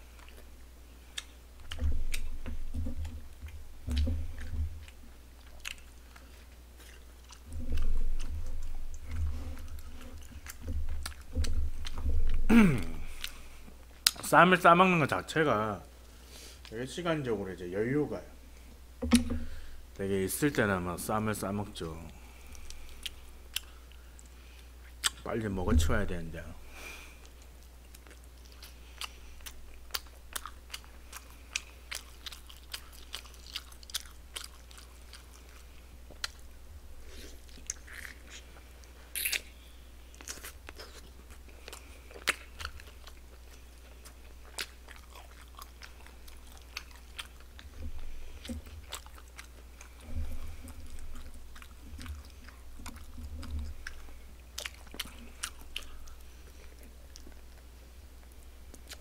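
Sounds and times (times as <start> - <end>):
chewing and biting: 0.0 - 14.3, 22.3 - 25.3, 27.2 - 59.0.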